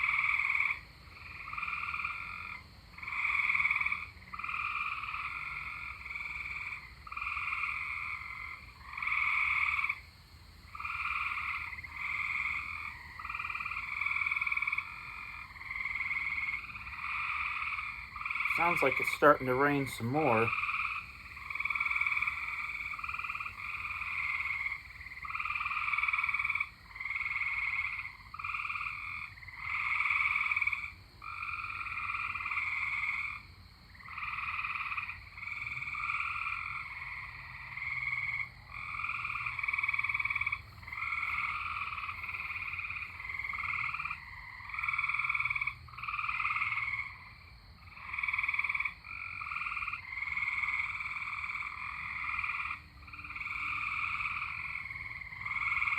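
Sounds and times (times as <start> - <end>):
tree frogs trilling: 0.0 - 55.9.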